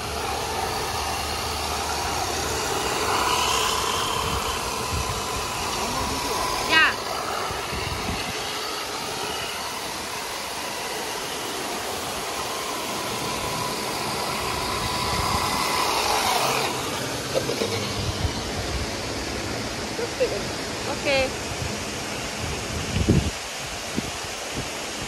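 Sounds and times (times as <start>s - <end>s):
electric motor whine: 0.0s - 25.0s.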